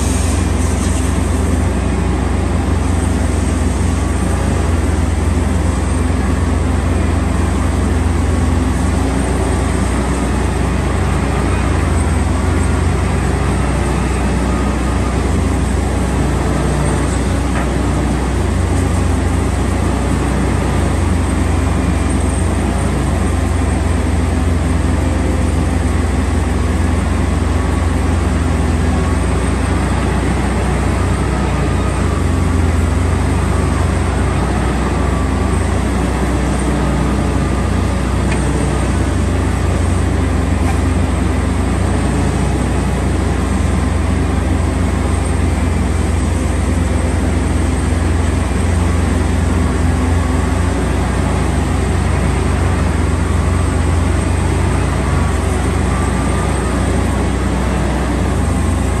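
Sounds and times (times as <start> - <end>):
road vehicle low rumble: 0.0 - 59.0.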